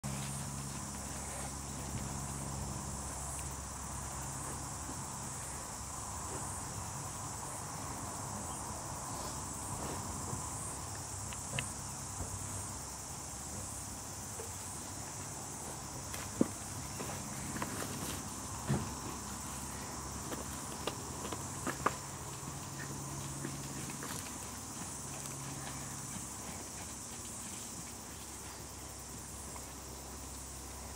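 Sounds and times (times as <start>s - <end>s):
insects chirping: 0.0s - 30.9s.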